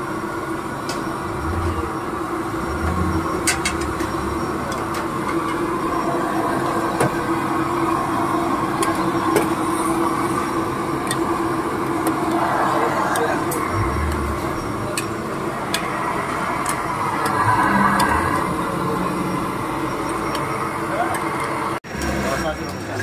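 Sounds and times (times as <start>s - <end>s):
gas stove burner roaring: 0.0s - 22.4s.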